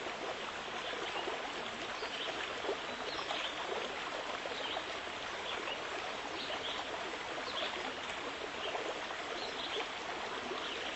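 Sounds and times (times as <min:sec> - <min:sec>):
stream babbling: 0:00.0 - 0:10.9.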